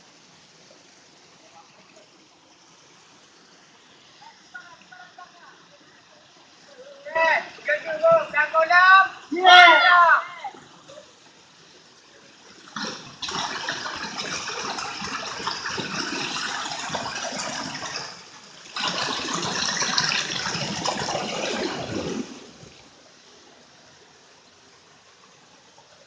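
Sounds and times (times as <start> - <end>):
stream water rushing over rocks: 0.0 - 26.0.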